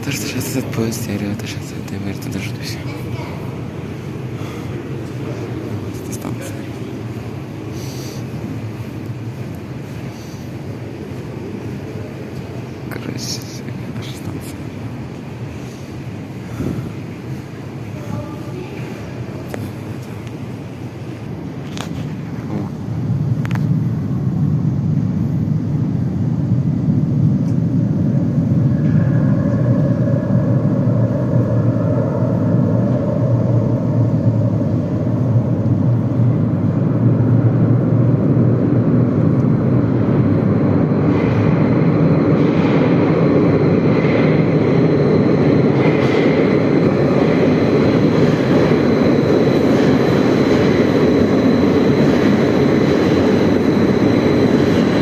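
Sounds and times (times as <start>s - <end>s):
high steady whine: 0.0s - 55.0s
train wheels rumbling on rails: 0.0s - 55.0s.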